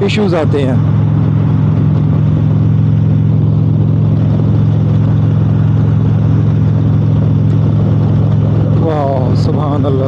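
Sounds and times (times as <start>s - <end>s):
motorcycle engine droning: 0.0s - 10.0s
wind and road rush: 0.0s - 10.0s.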